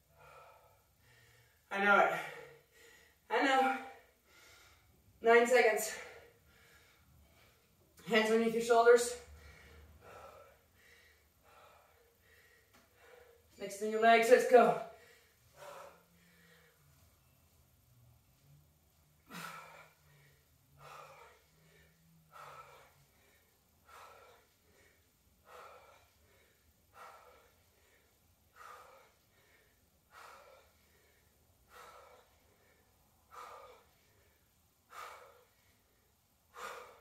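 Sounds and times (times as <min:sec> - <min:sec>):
woman breathing hard: 0:00.0 - 0:05.2, 0:05.8 - 0:08.1, 0:09.2 - 0:13.6, 0:14.8 - 0:17.4, 0:19.0 - 0:37.0.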